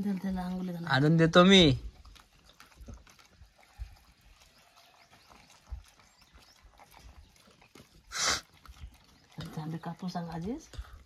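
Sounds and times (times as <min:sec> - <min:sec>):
dog chewing and crunching bones: 0:00.0 - 0:11.0.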